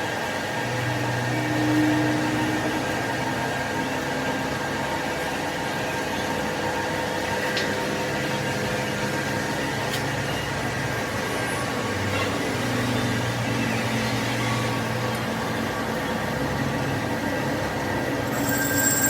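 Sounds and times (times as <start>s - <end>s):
workshop machinery humming: 0.0s - 19.0s.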